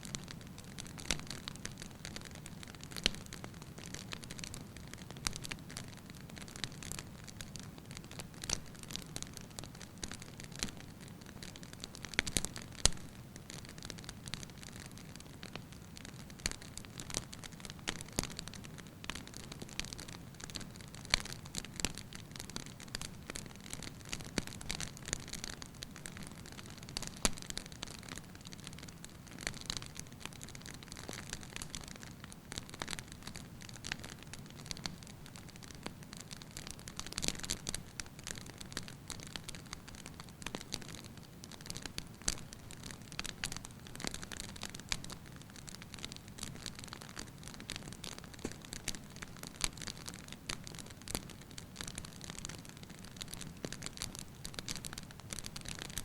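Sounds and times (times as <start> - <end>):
logs crackling and popping: 0.0 - 56.0.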